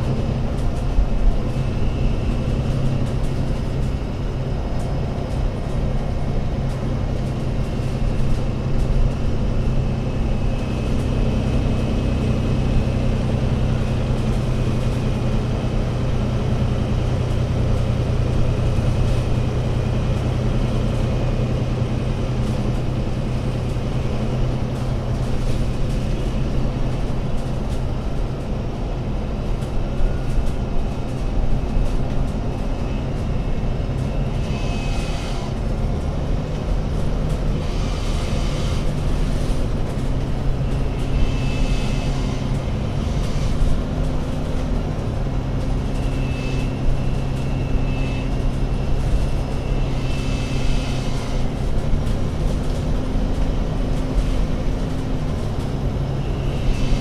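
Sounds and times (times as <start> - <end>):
bus engine droning: 0.0 - 57.0.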